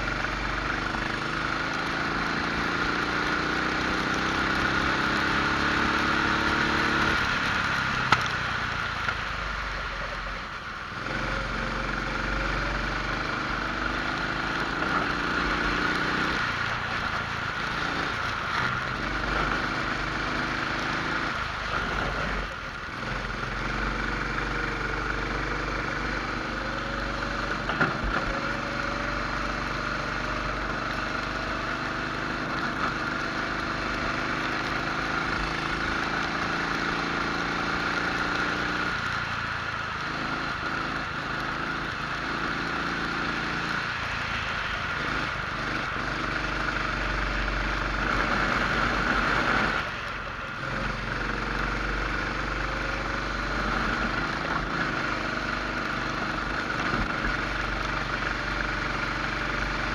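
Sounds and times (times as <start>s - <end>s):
kart engine accelerating: 0.0s - 59.9s.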